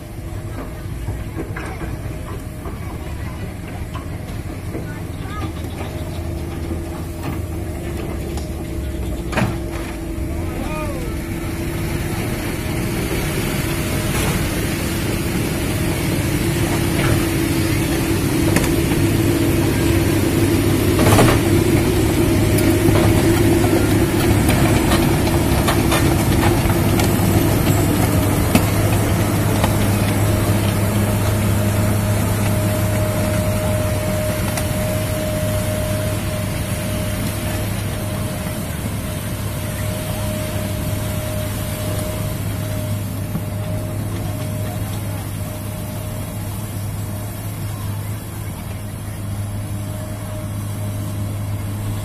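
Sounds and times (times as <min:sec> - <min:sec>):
heavy diesel engines running: 0:00.0 - 0:52.0.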